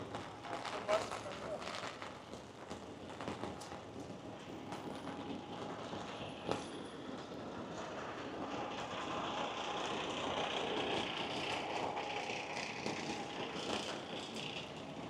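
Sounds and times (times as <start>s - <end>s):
street traffic wash: 0.0s - 15.0s
tyre hiss on wet pavement: 0.0s - 15.0s.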